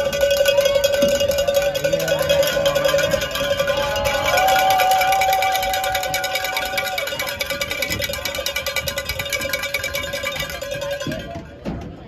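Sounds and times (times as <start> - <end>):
rapid metallic ringing noisemaker: 0.0 - 12.0.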